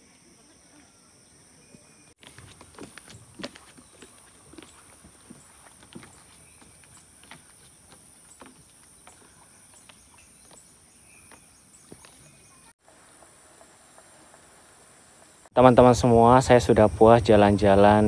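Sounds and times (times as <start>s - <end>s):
insects droning high: 0.0s - 18.0s.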